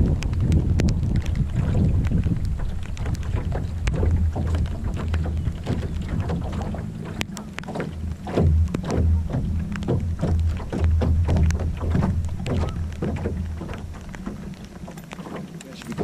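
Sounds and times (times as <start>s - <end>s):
water slapping boat hull: 0.0s - 16.0s
wind buffeting microphone: 0.0s - 16.0s.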